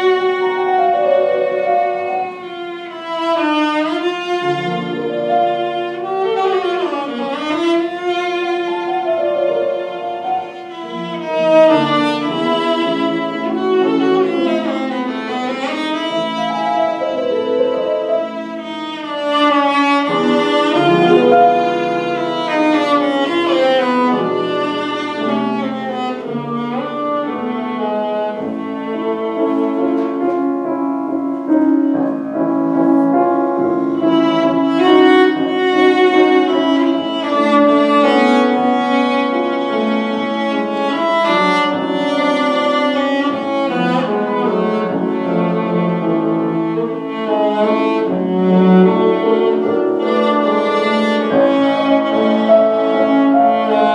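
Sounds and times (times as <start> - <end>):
piano accompaniment: 0.0 - 53.9
violin playing: 0.0 - 53.9.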